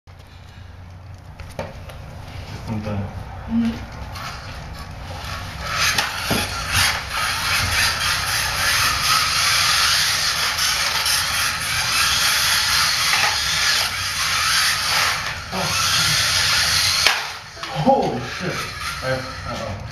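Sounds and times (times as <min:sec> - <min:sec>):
electric motors and gears whirring: 0:00.7 - 0:19.9.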